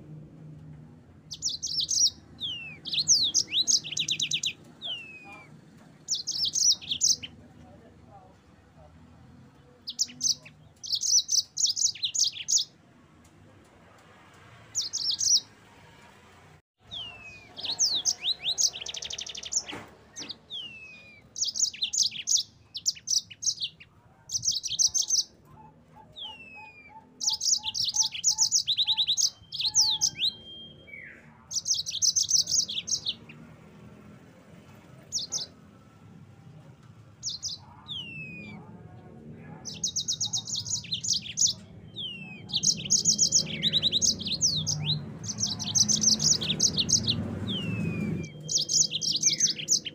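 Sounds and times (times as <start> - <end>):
canary singing trills: 1.2 - 7.5, 9.5 - 12.8, 14.7 - 15.5, 16.8 - 34.1, 34.8 - 35.8, 37.2 - 49.9.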